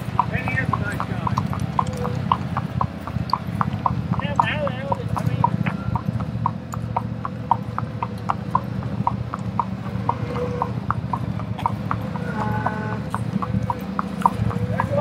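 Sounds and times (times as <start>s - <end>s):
horse hooves on asphalt: 0.0s - 15.0s.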